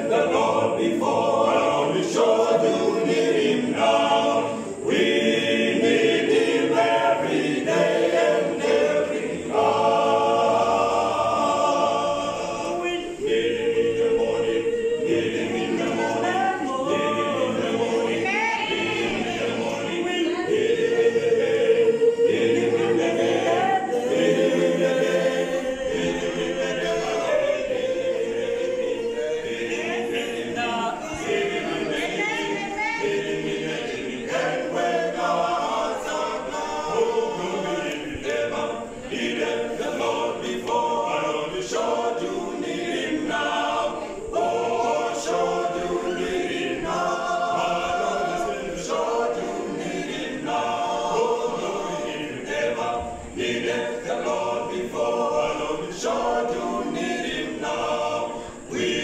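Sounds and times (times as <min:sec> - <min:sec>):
male vocal group singing: 0:00.0 - 0:59.0.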